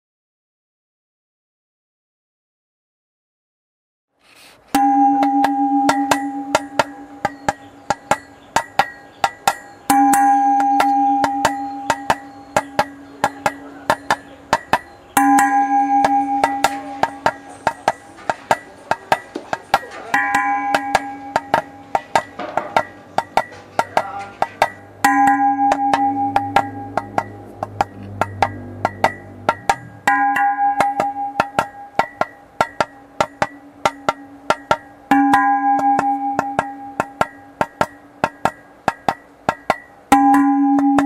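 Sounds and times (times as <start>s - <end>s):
ringing metallic strike: 4.7s - 41.0s.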